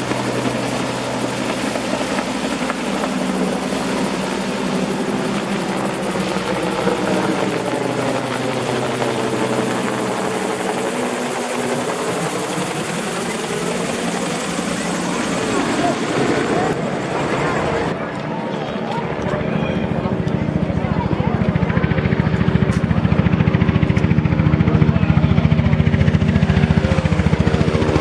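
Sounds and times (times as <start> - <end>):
helicopter flying past: 0.0 - 28.0.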